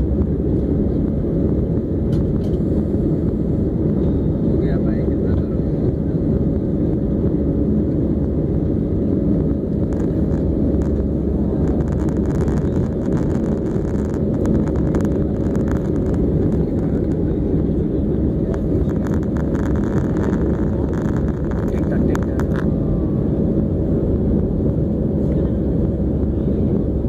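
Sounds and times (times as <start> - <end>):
jet engines and airflow rush: 0.0 - 27.0.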